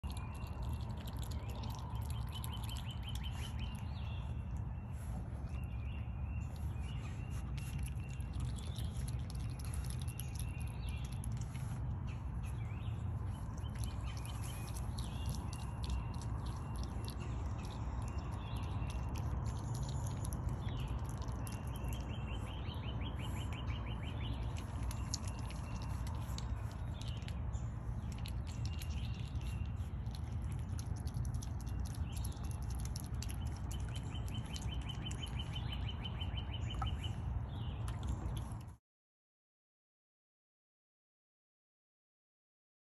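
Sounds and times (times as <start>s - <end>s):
otter chewing with wet smacking: 0.0s - 38.8s
low rumble: 0.1s - 38.8s.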